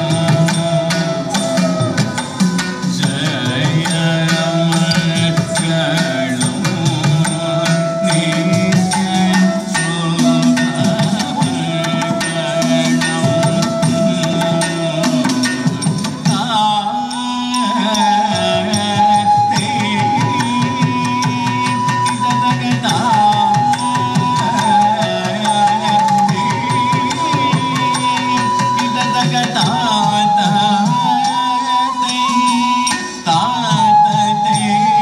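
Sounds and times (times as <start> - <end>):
hand drum strokes: 0.0 - 35.0.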